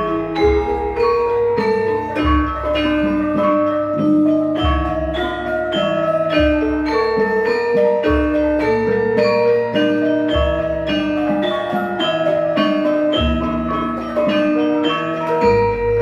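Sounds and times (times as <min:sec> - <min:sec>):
metallophone melody: 0:00.0 - 0:16.0.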